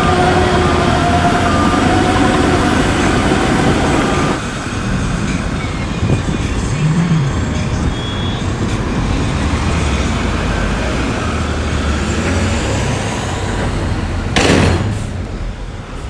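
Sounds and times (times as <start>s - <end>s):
diesel machinery rumbling: 0.0s - 16.0s
loud burst of noise: 0.0s - 16.0s.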